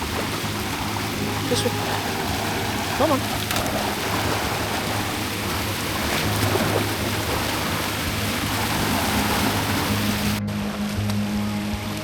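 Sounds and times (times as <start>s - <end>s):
river water rushing: 0.0s - 10.8s.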